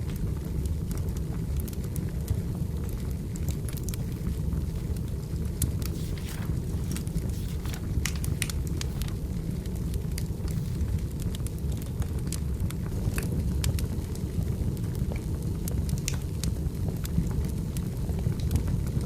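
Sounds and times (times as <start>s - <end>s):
fire crackling and popping: 0.0s - 19.0s
firewood burning: 0.0s - 19.0s.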